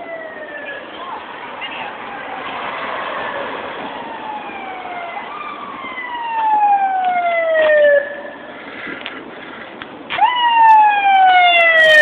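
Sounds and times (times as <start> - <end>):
fire engine siren wailing: 0.0 - 8.5, 10.1 - 12.0.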